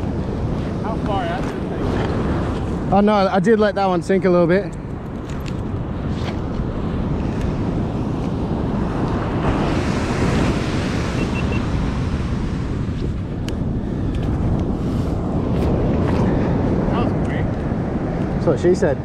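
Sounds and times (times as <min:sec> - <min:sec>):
ocean surf breaking: 0:00.0 - 0:04.6, 0:05.6 - 0:19.0
wind buffeting microphone: 0:00.0 - 0:19.0.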